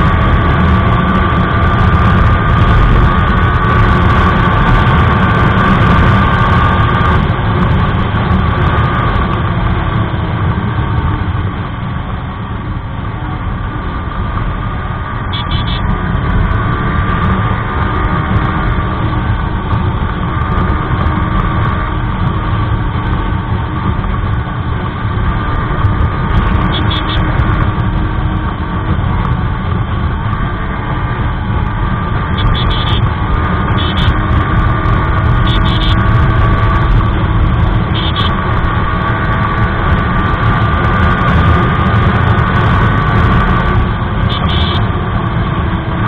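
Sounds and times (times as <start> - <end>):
wind noise on microphone: 0.0 - 13.4, 14.6 - 46.0
motorcycle engine running: 0.0 - 46.0.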